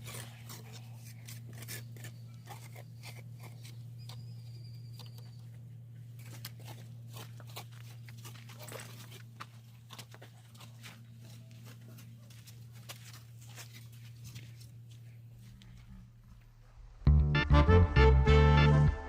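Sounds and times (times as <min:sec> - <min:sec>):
steady low hum: 0:00.0 - 0:17.4.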